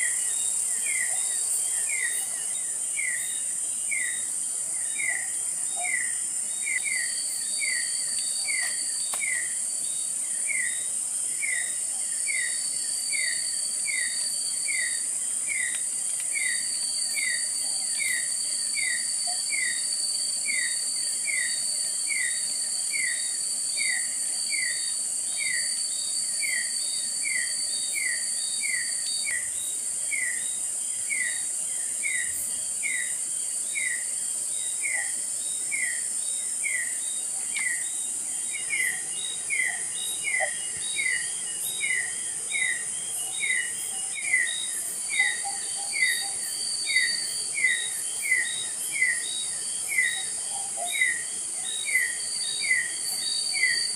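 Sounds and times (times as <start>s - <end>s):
high-pitched insect drone: 0.0s - 53.9s.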